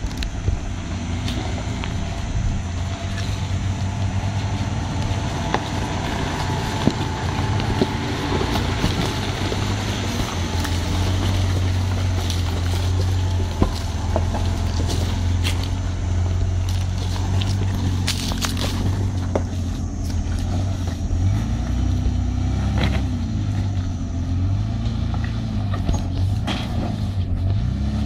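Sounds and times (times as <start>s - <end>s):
engine running at low revs: 0.0s - 28.0s
stones knocking under tyres: 1.2s - 23.9s.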